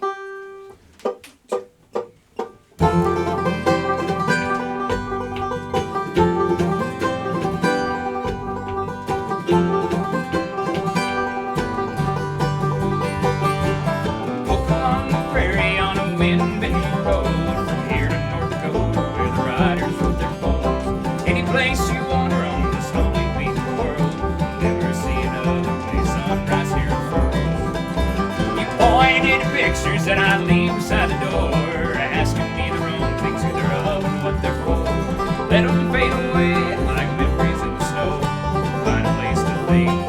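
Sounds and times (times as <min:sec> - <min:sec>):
banjo plucking: 0:00.0 - 0:40.0
bluegrass band playing: 0:00.0 - 0:40.0.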